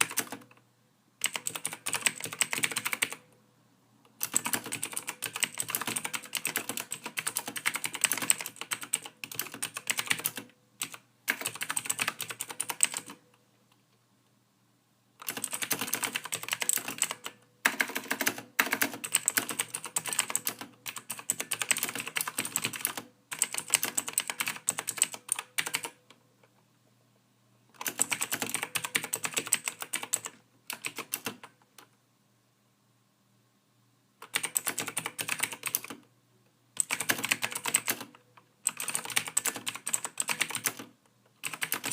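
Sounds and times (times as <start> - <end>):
soft typing on keyboard: 0.0 - 3.4, 4.0 - 14.0, 15.2 - 26.7, 27.7 - 32.0, 34.2 - 36.1, 36.8 - 41.9.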